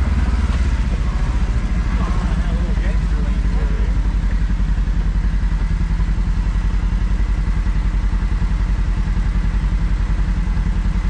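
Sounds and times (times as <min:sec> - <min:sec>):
engine throbbing at low revs: 0:00.0 - 0:11.0.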